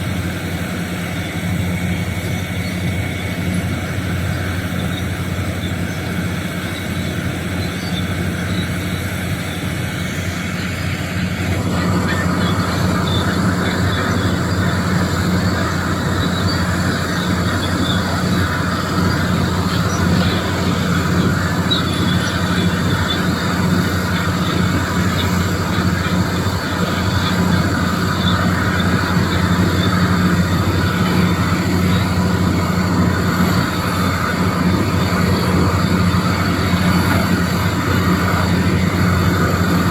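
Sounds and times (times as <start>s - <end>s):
excavator diesel engine running: 0.0s - 39.9s
machine working noise: 0.0s - 39.9s.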